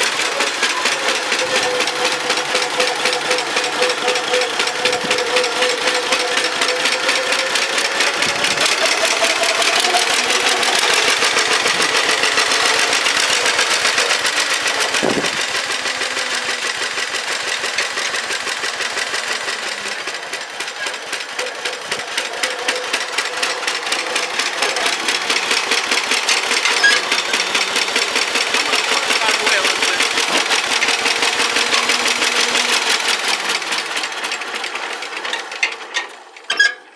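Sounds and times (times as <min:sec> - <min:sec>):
tractor engine putt-putt: 0:00.0 - 0:36.9.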